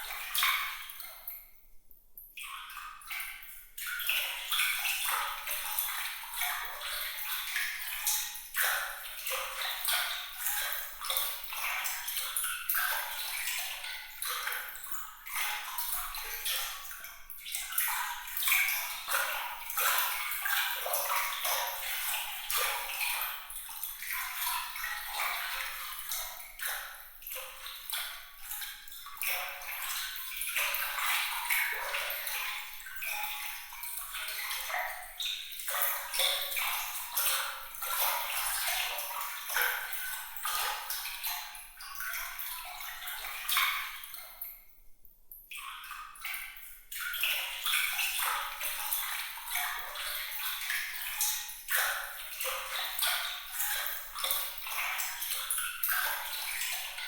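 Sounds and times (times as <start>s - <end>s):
water trickling and splashing: 0.0s - 44.8s, 45.5s - 57.0s.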